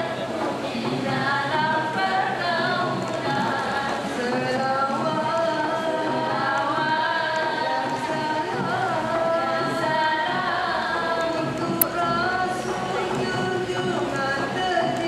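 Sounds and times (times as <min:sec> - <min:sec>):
women singing in harmony: 0:00.6 - 0:15.0.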